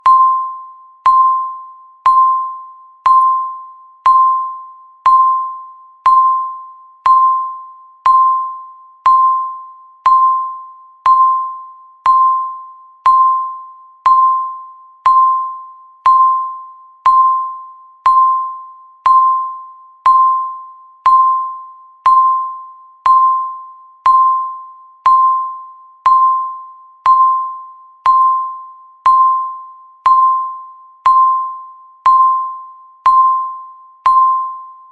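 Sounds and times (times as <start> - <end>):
countdown timer beeps: 0.0 - 34.9.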